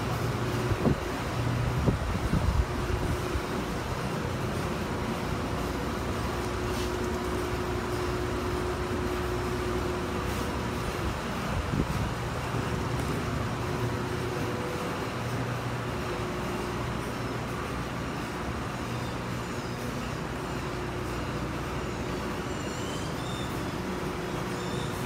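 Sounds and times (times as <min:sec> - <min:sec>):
machinery rumble and hum: 0:00.0 - 0:25.0.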